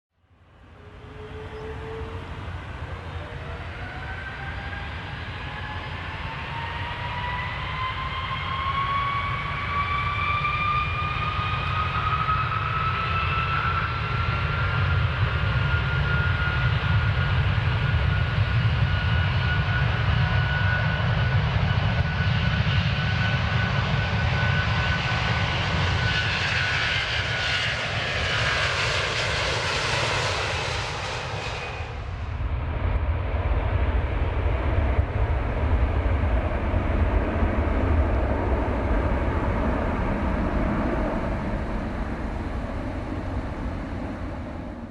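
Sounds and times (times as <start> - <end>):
jet engine whine: 0.2 - 44.9.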